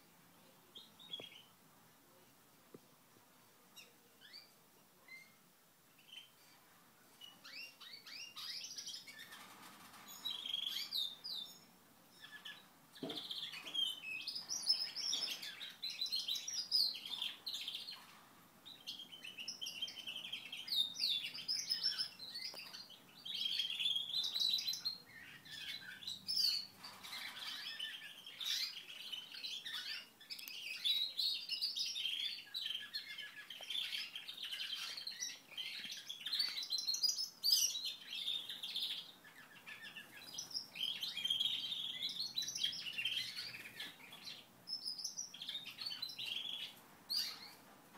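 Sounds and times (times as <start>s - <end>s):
canary singing trills and chirps: 0.0s - 1.6s, 3.7s - 47.7s.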